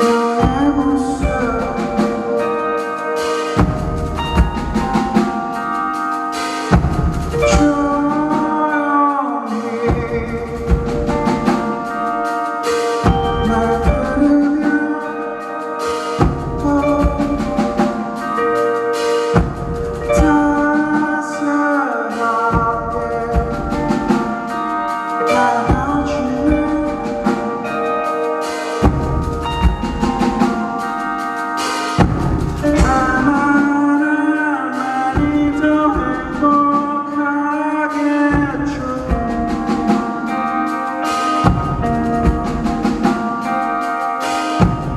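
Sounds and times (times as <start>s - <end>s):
drum kit beat: 0.0s - 44.9s
live rock band playing: 0.0s - 44.9s.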